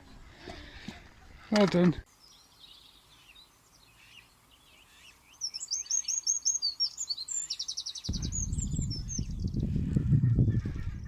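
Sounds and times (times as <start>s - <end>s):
songbird singing: 0.2s - 11.0s.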